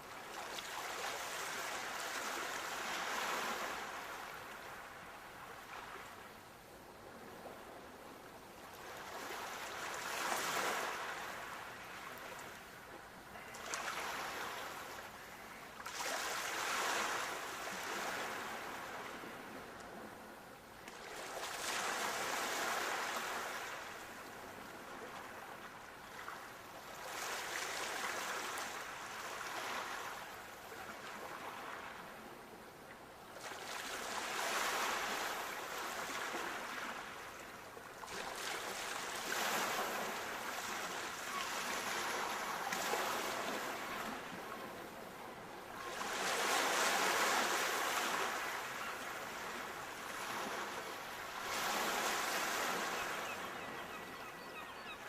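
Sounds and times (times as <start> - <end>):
sea waves breaking on shore: 0.0 - 6.2, 8.7 - 20.2, 20.8 - 32.3, 33.4 - 55.0.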